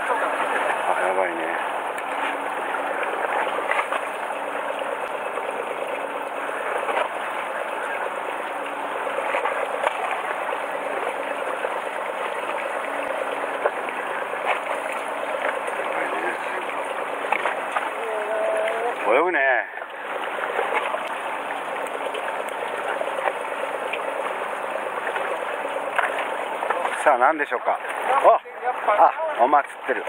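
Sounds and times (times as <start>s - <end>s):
boat engine idling: 0.0s - 30.0s.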